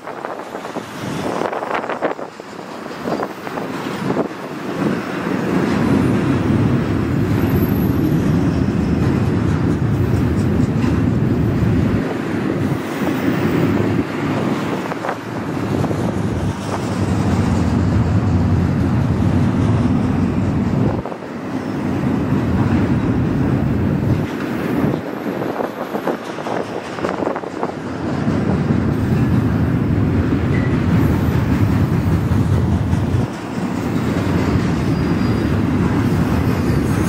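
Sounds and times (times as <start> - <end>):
freight train rumbling on rails: 0.0 - 37.0
wind buffeting microphone: 0.0 - 37.0.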